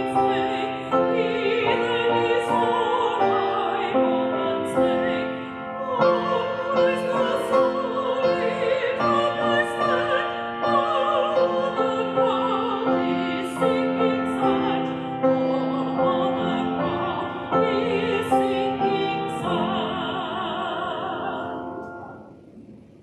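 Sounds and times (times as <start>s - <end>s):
woman singing a hymn: 0.0s - 22.2s.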